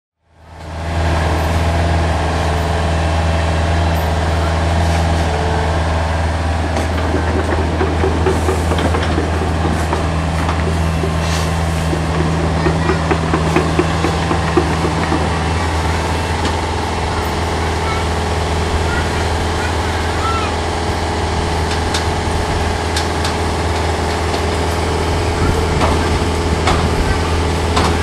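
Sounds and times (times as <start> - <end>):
excavator diesel engine running: 0.2 - 28.0.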